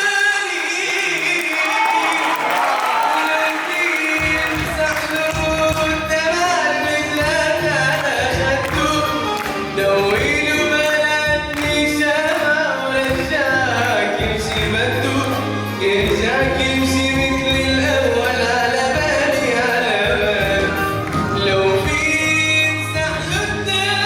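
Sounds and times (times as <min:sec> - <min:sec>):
man singing ornamented melody: 0:03.2 - 0:24.0
instrumental accompaniment: 0:04.2 - 0:24.0.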